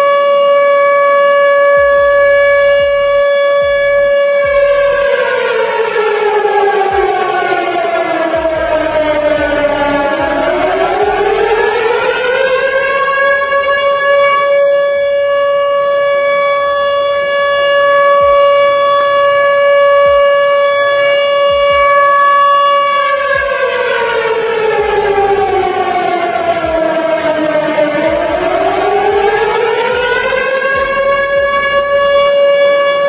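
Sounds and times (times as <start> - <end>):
warning siren winding: 0.0 - 33.0.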